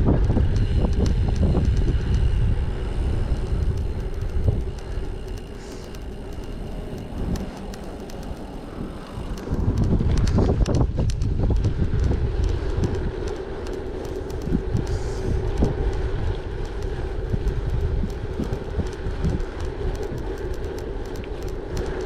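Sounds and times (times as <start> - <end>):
bike tyres rumbling on gravel: 0.0 - 22.0
stones and bike rattling: 0.0 - 22.0
wind on microphone: 0.0 - 22.0.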